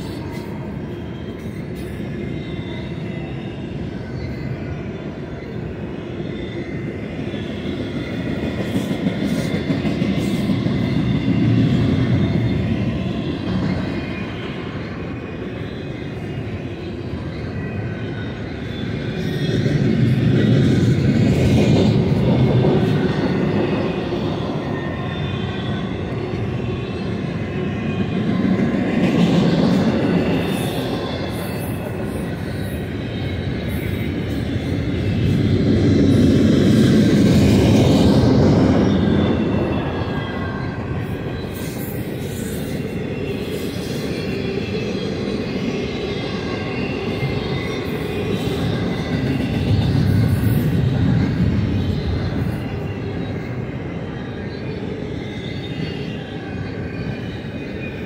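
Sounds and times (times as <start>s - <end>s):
faint high wheel squeal: 0.0s - 58.0s
steel wheels rumbling on rail: 0.0s - 58.0s.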